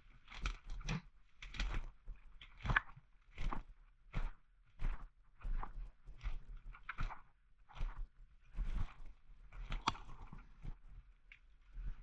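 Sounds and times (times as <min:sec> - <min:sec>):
footsteps crunching through undergrowth: 0:00.8 - 0:11.0.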